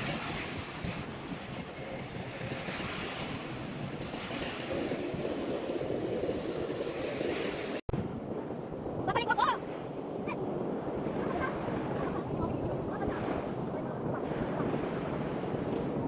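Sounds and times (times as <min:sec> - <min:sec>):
ocean surf waves: 0:00.0 - 0:16.0
wind buffeting microphone: 0:00.0 - 0:16.0.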